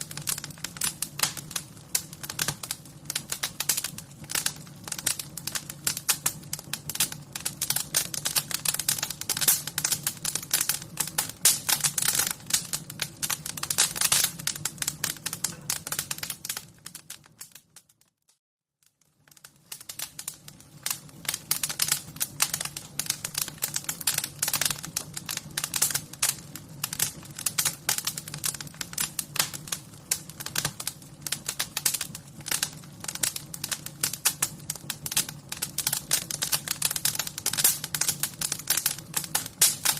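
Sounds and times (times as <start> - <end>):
wood fire crackling: 0.0 - 18.1, 18.8 - 39.9.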